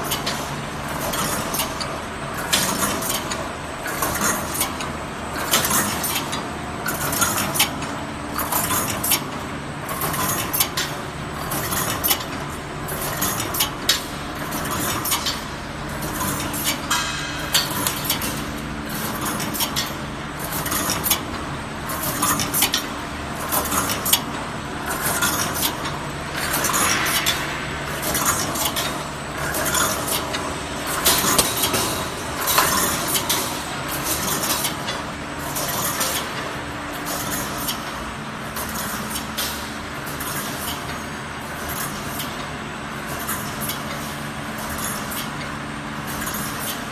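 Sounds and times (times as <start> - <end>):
steady machine hum: 0.0 - 46.9
welding machine metallic clanks: 0.0 - 46.9.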